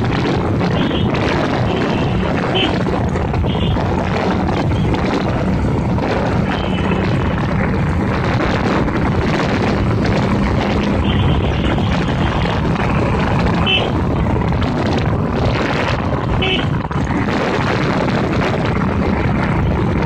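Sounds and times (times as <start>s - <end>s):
motorcycle engine running: 0.0s - 20.0s
wind rushing over camera: 0.0s - 20.0s.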